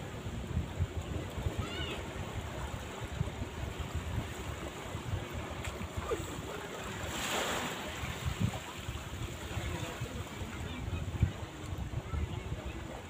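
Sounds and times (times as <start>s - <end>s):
small waves washing onto sand: 0.0s - 13.0s
wind buffeting microphone: 0.0s - 13.0s.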